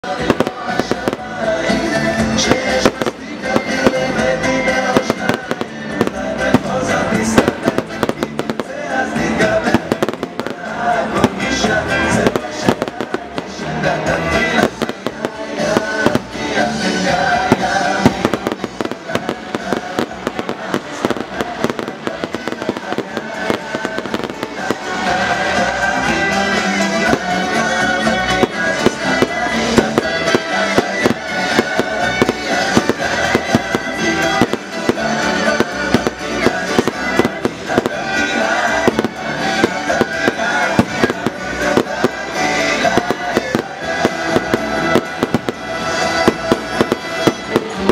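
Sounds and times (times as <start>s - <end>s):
fireworks exploding: 0.0s - 47.9s
music playing: 0.0s - 47.9s.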